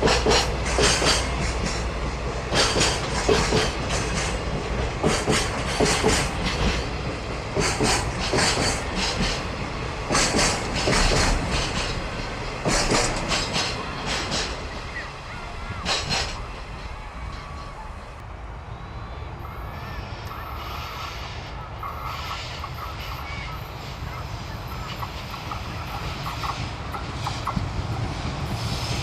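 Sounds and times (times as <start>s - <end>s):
train wheels clattering over rail joints: 0.0s - 18.2s, 21.8s - 29.0s
train rumble: 0.0s - 29.0s.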